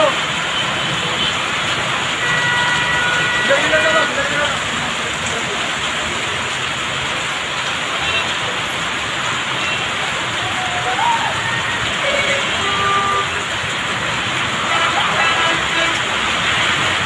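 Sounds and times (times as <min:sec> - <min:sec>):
heavy rain on a wet road: 0:00.0 - 0:17.0.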